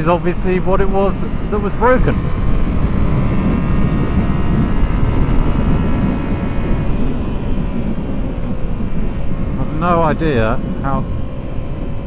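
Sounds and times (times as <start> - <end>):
motorcycle engine running: 0.0 - 12.0
wind buffeting on microphone: 0.0 - 12.0.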